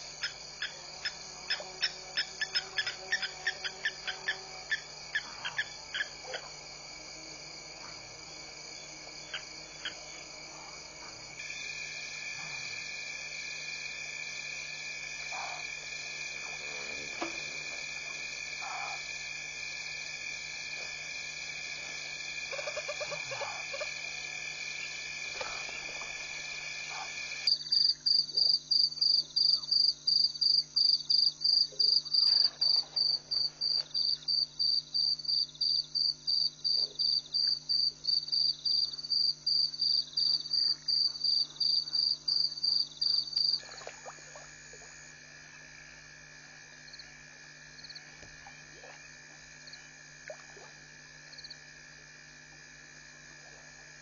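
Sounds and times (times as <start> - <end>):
frogs and insects trilling: 0.0 - 54.0.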